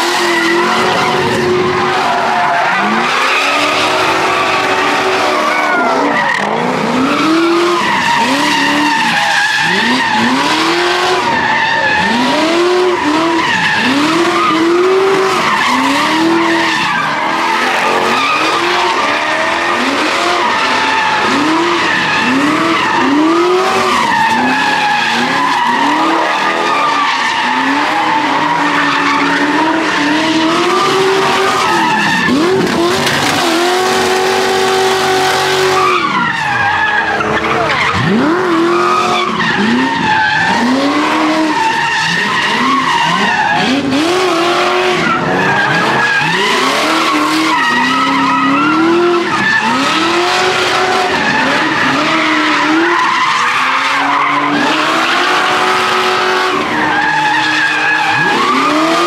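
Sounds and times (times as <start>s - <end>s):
car engines revving: 0.0s - 59.0s
tire screech: 0.0s - 59.0s.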